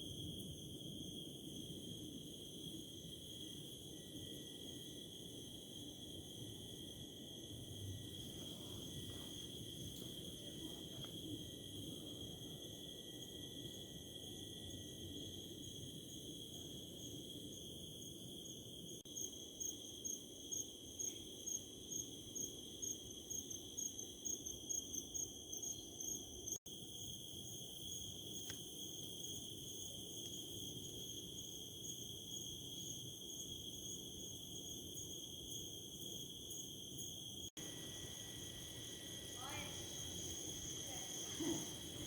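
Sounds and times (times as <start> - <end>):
close cricket chirping: 0.0 - 42.0
crickets trilling chorus: 0.0 - 42.0.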